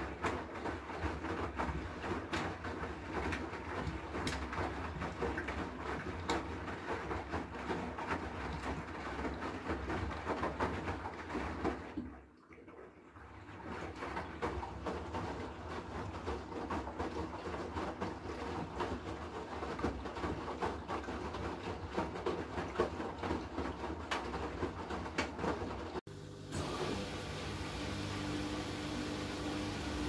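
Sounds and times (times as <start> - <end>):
washing machine motor hum: 0.0 - 12.1, 13.0 - 30.0
laundry sloshing in drum: 0.0 - 30.0.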